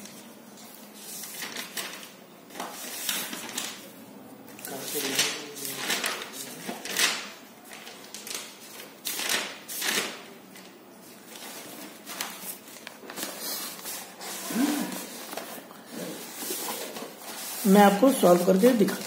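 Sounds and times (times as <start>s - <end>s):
notebook pages turning: 0.0s - 3.9s, 4.5s - 19.0s.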